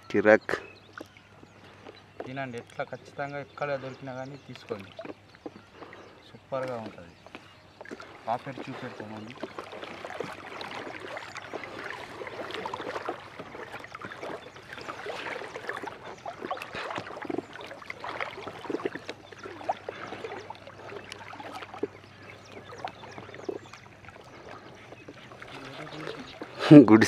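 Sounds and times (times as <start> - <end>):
water splashing and dripping: 3.9 - 26.8.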